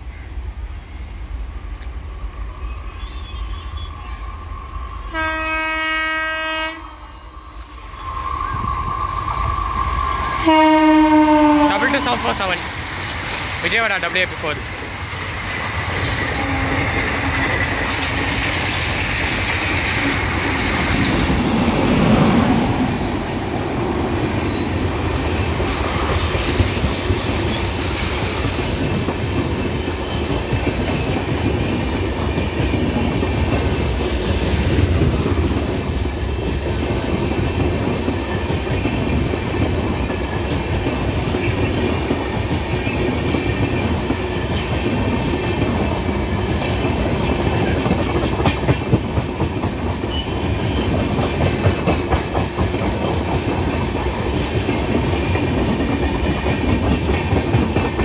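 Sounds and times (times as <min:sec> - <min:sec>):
train wheels clattering on rail: 0:10.0 - 0:58.0.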